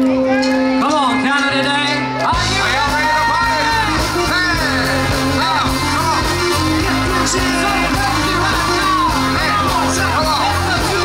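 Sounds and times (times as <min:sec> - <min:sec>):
keyboards: 0:00.0 - 0:11.0
male singer: 0:00.0 - 0:11.0
electric guitar: 0:01.4 - 0:11.0
low bass line: 0:01.5 - 0:11.0.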